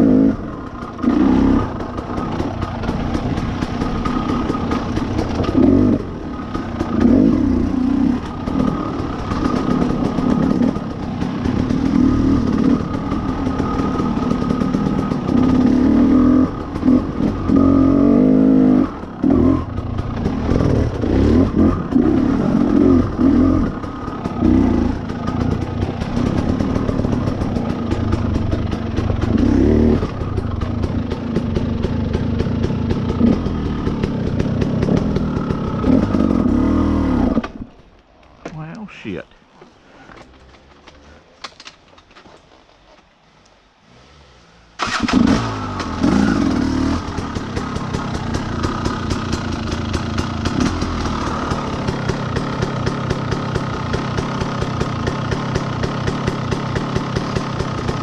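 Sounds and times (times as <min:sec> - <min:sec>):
two-stroke dirt bike engine revving: 0:00.0 - 0:37.6, 0:43.8 - 0:58.0.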